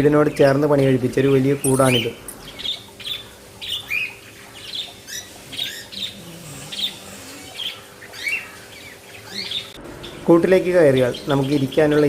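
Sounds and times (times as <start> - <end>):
faint steady hum: 0.0 - 12.0
birds chirping and squawking: 1.2 - 12.0.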